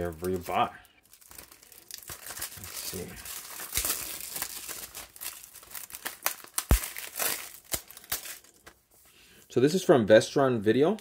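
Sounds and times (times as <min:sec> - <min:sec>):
plastic shrink wrap crinkling: 0:00.0 - 0:08.9.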